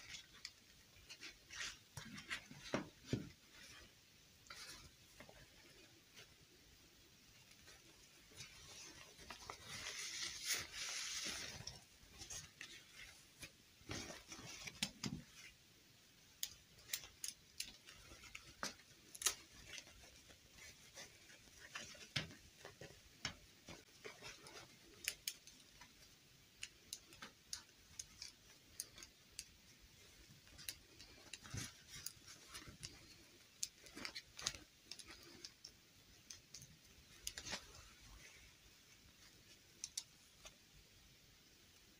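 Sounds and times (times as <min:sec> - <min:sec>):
fabric dress rustling: 0:00.0 - 0:06.7, 0:07.3 - 0:15.6, 0:16.8 - 0:26.2, 0:27.1 - 0:40.6.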